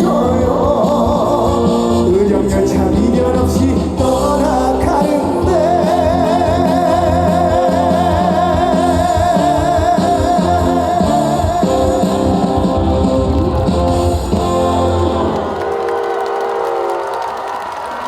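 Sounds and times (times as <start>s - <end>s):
band accompaniment: 0.0s - 16.9s.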